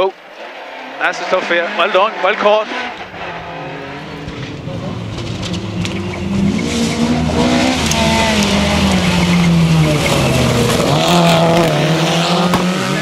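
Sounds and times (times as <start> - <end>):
tyre and road noise: 0.0 - 13.0
rally car engine from inside cabin: 1.6 - 13.0.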